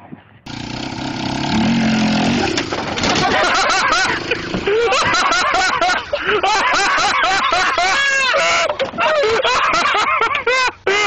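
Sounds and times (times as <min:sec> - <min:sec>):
loud laughter: 0:02.1 - 0:11.0.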